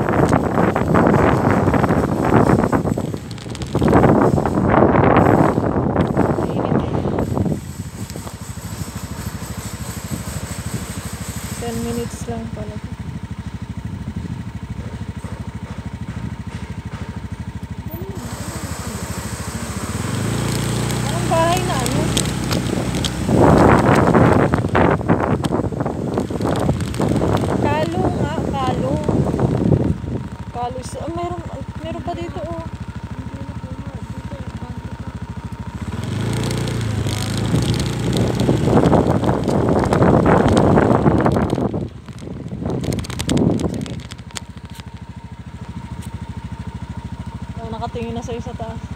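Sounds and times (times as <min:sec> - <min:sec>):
wind buffeting microphone: 0:00.0 - 0:13.2, 0:17.5 - 0:48.9
motorcycle engine puttering: 0:00.0 - 0:48.9.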